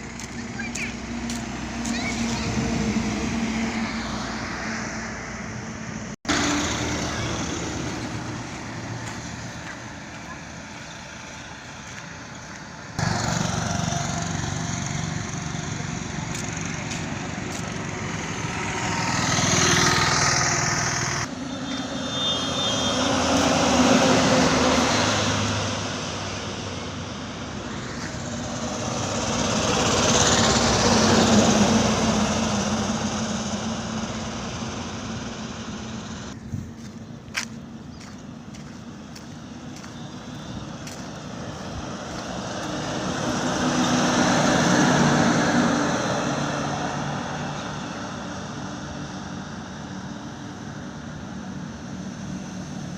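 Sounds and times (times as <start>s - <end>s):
road noise: 0.0s - 52.9s
vehicles passing: 0.0s - 52.9s.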